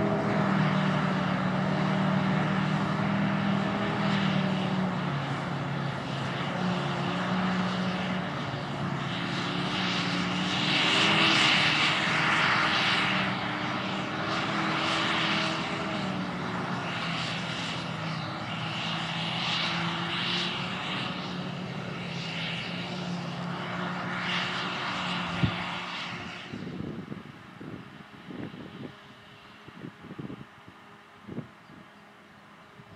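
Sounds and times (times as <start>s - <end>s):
rushing hiss of harvester: 0.0s - 26.6s
diesel engine drone: 0.0s - 32.9s.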